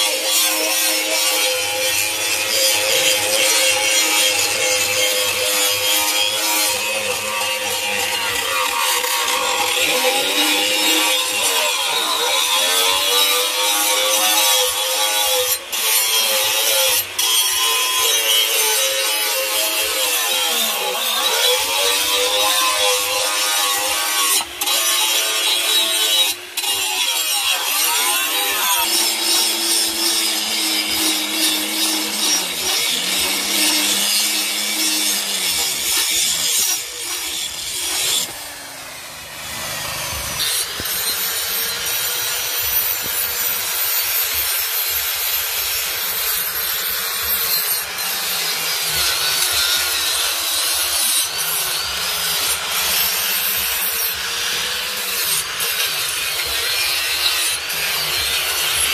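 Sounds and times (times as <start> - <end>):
angle grinder grinding steel: 0.0 - 58.9.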